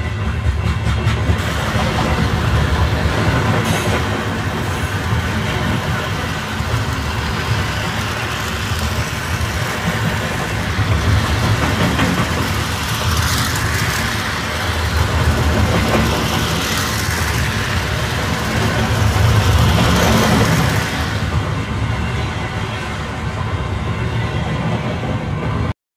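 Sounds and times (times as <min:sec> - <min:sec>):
wheels rumbling on metal rails: 0:00.0 - 0:22.6.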